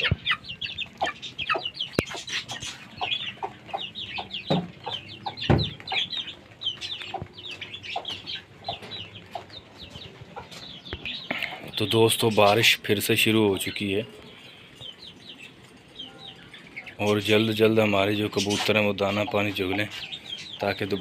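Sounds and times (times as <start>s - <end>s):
chicken clucking: 0.0s - 21.0s
chicks peeping: 0.0s - 21.0s.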